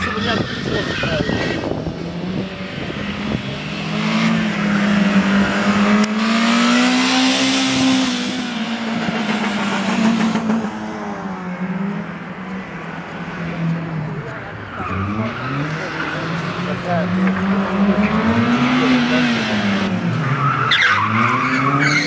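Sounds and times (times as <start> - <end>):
car engine running hard: 0.0 - 22.0
road and tyre noise: 0.0 - 22.0.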